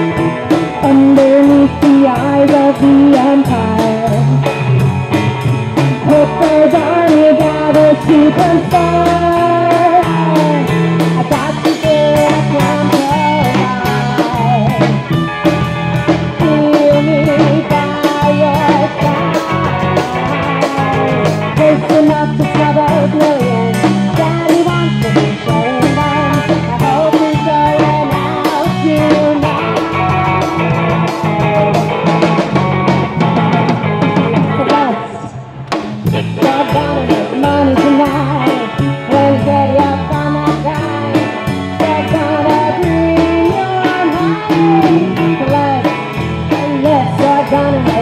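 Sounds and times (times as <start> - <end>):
woman singing into microphone: 0.0 - 4.5, 5.9 - 15.2, 16.1 - 19.5, 20.6 - 30.1, 34.2 - 35.4, 36.2 - 48.0
bass guitar: 0.0 - 48.0
drums with steady beat: 0.0 - 48.0
electric guitar: 0.0 - 48.0.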